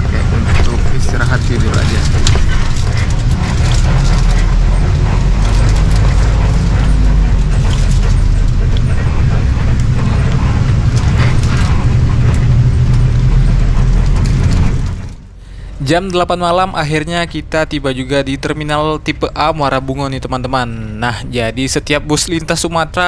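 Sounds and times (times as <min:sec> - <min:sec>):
bus diesel engine droning: 0:00.0 - 0:20.2
road noise: 0:00.0 - 0:23.0.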